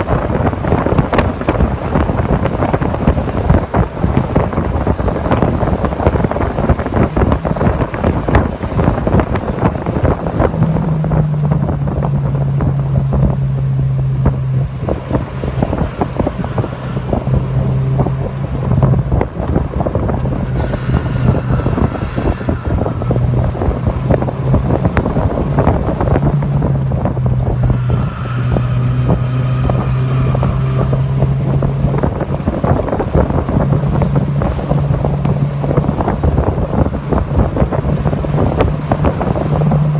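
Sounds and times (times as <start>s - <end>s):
car engine at high revs: 0.0s - 39.9s
wind buffeting microphone: 0.0s - 39.9s.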